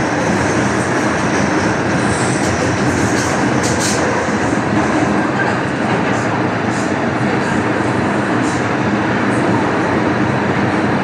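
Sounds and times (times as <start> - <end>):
train rumble of wheels and motors: 0.0 - 11.0.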